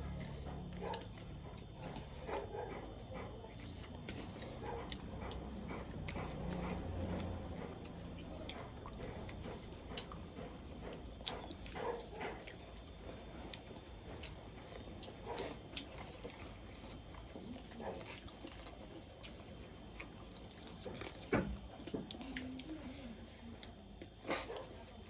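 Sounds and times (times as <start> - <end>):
person chewing crunchy food: 0.0 - 22.8.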